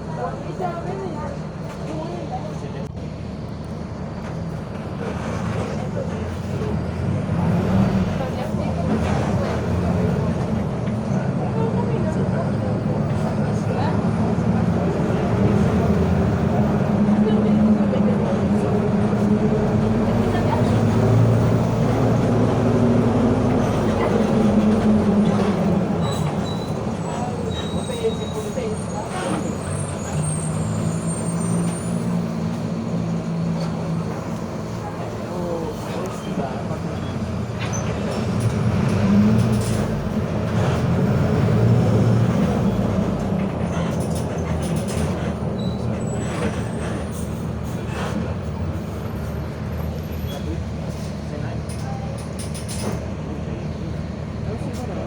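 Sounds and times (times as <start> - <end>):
bus diesel engine droning: 0.0 - 55.0.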